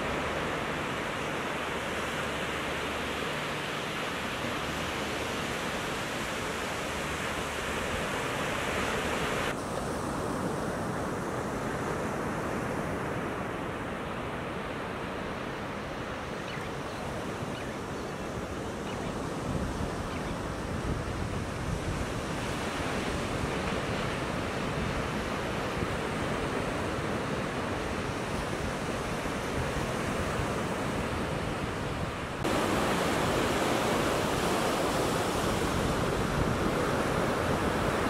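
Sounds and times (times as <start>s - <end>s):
ocean surf breaking on beach: 0.0s - 38.0s.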